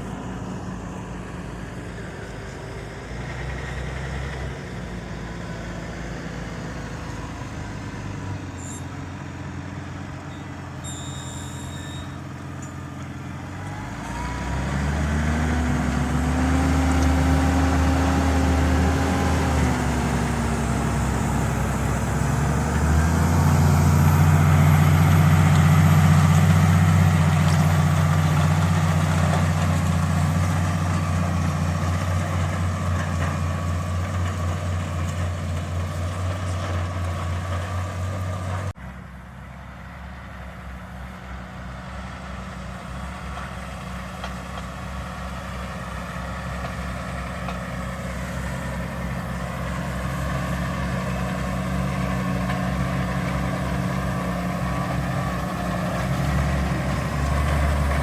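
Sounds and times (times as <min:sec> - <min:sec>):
tractor engine drone: 0:00.0 - 0:58.0
tractor engine under load: 0:00.0 - 0:58.0.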